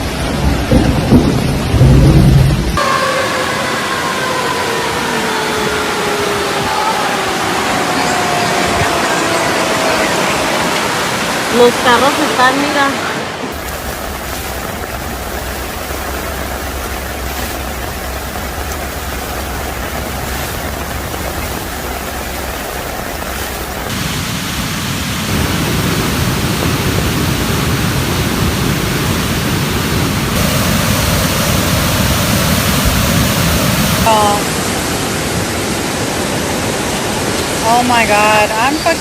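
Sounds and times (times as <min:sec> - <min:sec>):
floodwater rushing: 0:00.0 - 0:39.0
heavy rain: 0:00.0 - 0:39.0.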